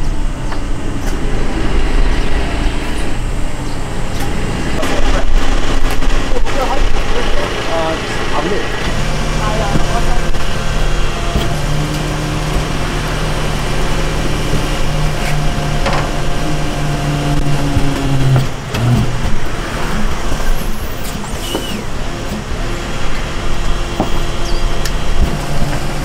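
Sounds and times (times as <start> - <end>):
garbage truck engine humming: 0.0 - 26.0
hydraulic compactor: 0.0 - 26.0.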